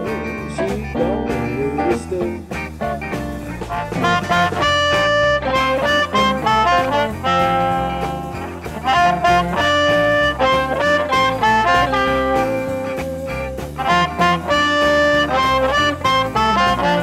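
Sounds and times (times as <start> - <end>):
drums: 0.0 - 17.0
electric bass: 0.0 - 17.0
electric guitar bending phrase: 0.0 - 17.0
amplified harmonica solo: 1.6 - 17.0.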